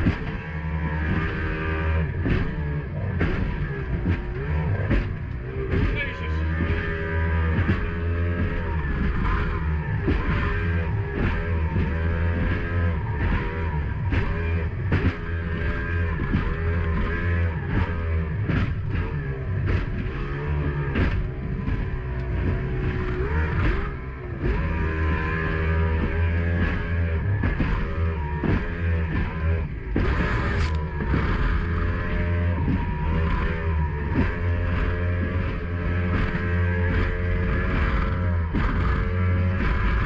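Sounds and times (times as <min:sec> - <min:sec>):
hull slapping waves: 0:00.0 - 0:40.0
outboard motor running: 0:00.0 - 0:40.0.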